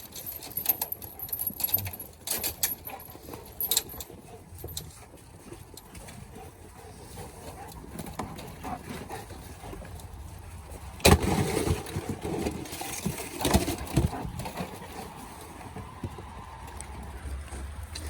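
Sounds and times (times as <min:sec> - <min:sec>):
goats jostling at feed: 0:00.0 - 0:18.0.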